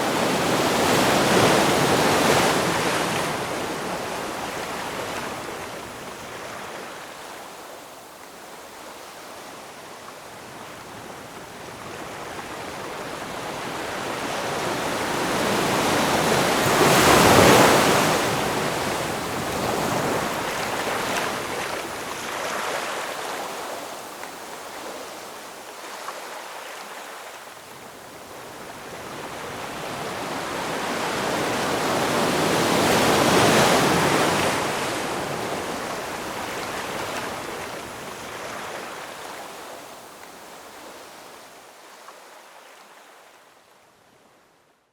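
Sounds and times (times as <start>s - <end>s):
ocean waves crashing ashore: 0.0s - 7.8s, 8.8s - 43.3s.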